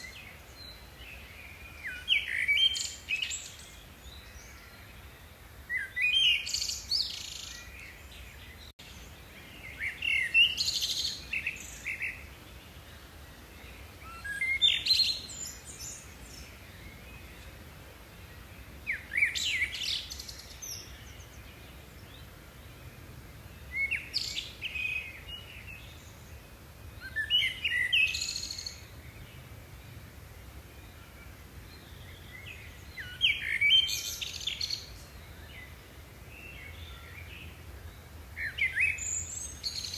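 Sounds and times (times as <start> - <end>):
faint outdoor background: 0.0 - 39.9
songbird chirps and trills: 0.0 - 39.9.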